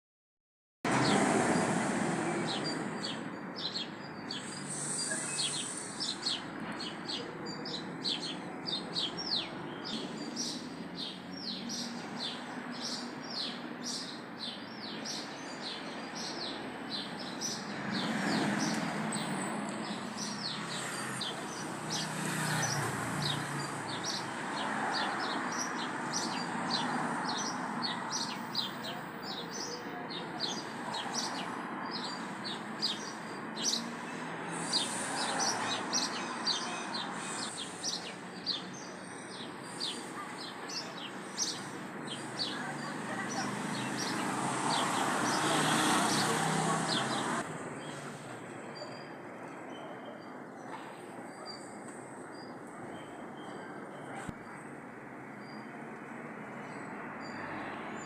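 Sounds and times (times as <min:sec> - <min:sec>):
birds chirping: 0:00.9 - 0:58.0.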